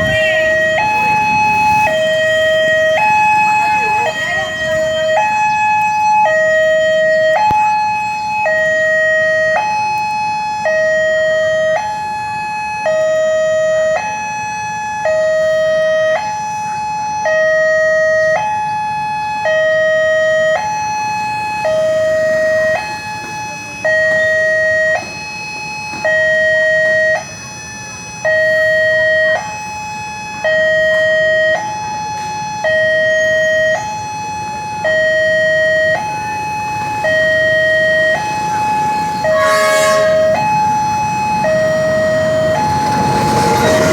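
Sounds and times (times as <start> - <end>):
level crossing two-tone alarm: 0.0 - 43.9.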